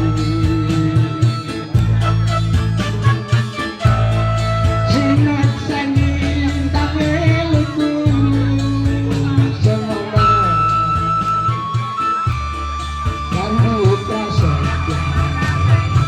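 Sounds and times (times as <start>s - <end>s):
band music with low beat: 0.0s - 16.0s.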